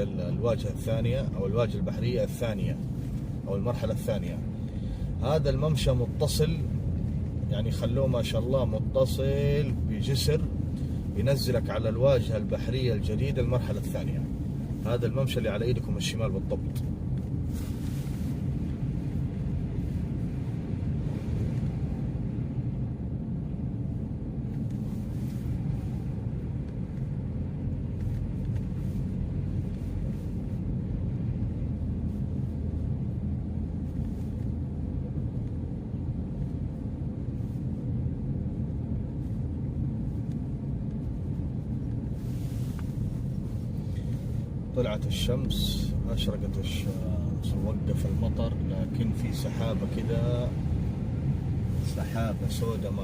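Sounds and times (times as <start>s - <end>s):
car driving heard from inside: 0.0s - 53.0s.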